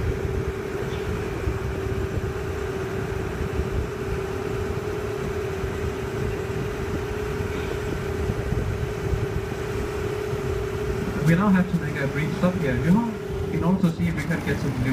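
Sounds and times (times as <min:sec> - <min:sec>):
boat engine humming: 0:00.0 - 0:14.9
low uneven rumble: 0:00.0 - 0:14.9.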